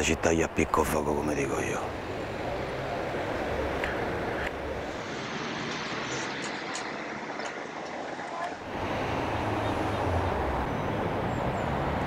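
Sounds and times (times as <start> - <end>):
distant traffic noise: 0.0 - 12.0.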